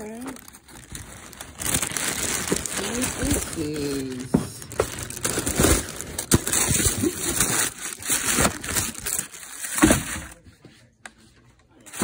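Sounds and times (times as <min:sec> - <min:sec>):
tissue paper rustling and crinkling: 0:00.0 - 0:09.9.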